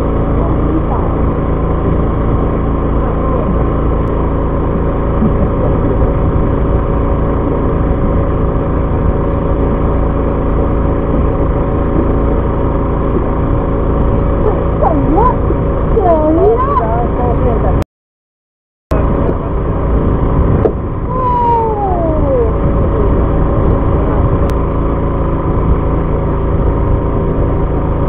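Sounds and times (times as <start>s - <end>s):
boat engine droning: 0.0s - 17.8s, 18.9s - 28.0s.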